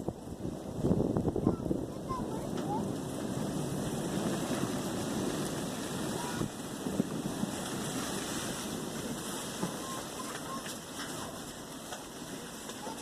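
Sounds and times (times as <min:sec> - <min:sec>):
blizzard wind rushing: 0:00.0 - 0:13.0.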